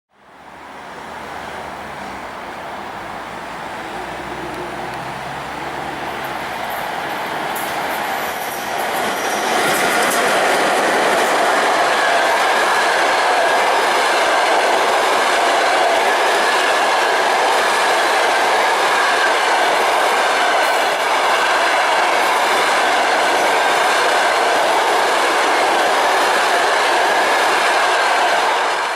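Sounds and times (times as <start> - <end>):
train wheels rumbling on rails: 0.2 - 28.9.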